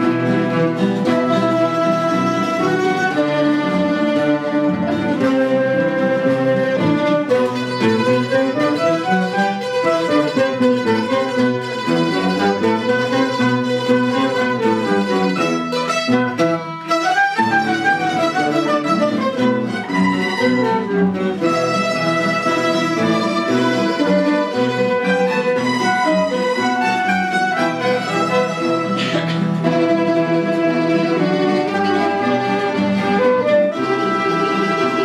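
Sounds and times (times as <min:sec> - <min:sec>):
mandolins: 0:00.0 - 0:35.0
strummed acoustic guitars: 0:00.0 - 0:35.0
woodwind melody: 0:00.0 - 0:35.0.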